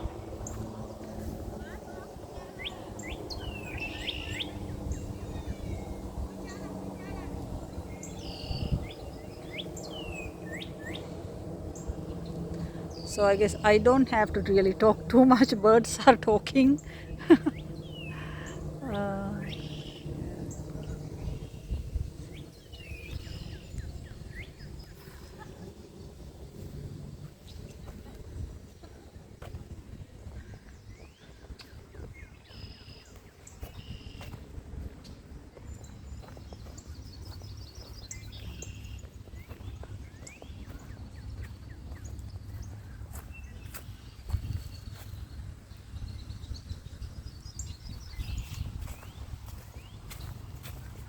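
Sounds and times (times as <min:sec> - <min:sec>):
birds chirping: 0:00.0 - 0:51.0
low background rumble: 0:00.0 - 0:51.0
songbirds singing: 0:00.0 - 0:51.0.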